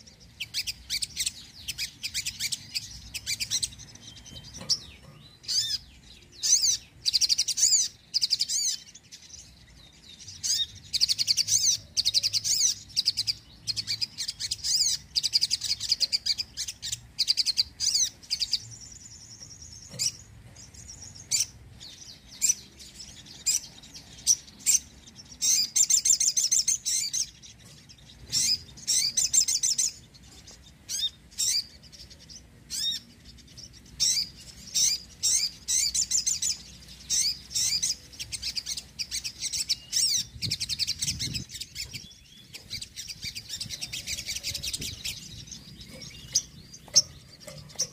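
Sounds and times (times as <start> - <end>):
bird twittering trills: 0.0 - 47.9.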